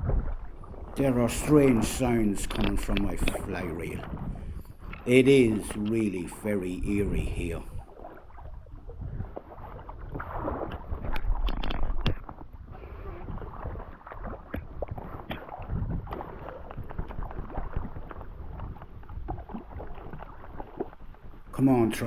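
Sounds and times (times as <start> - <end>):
wind rumbling on microphone: 0.0 - 21.5
water splashing and sloshing: 0.0 - 22.0.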